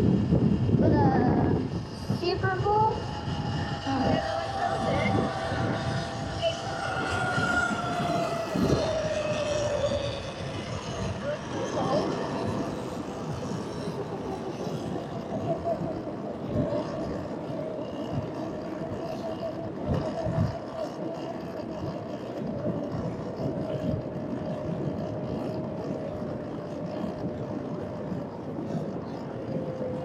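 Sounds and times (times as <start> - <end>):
electric motor whine: 0.0 - 30.0
wind buffeting microphone: 0.0 - 30.0.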